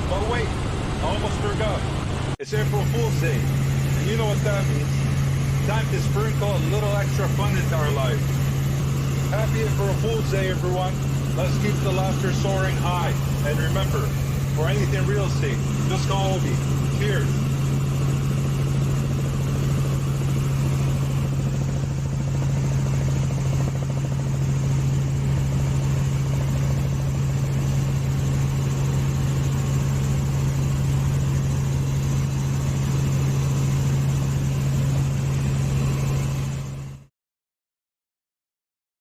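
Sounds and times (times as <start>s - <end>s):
engine droning: 0.0s - 37.0s.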